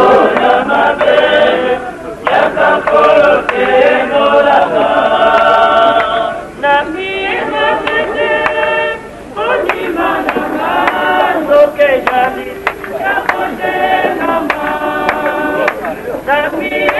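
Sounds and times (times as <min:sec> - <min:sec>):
group of voices singing: 0:00.0 - 0:16.9.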